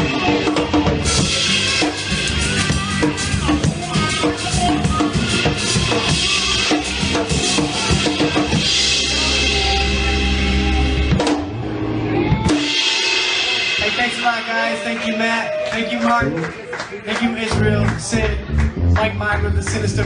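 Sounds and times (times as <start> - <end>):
busy drum kit: 0.0 - 20.0
live band playing: 0.0 - 20.0.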